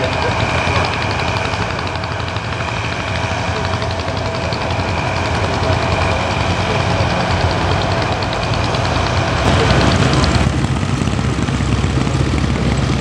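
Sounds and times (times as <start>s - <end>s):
tractor engine rumbling: 0.0s - 13.0s
fine rapid ticking: 0.1s - 13.0s.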